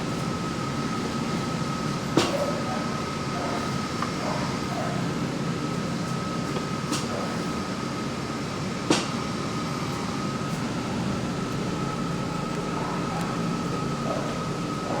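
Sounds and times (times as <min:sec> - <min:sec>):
steady running hum: 0:00.0 - 0:15.0
thin steady whine: 0:00.0 - 0:15.0.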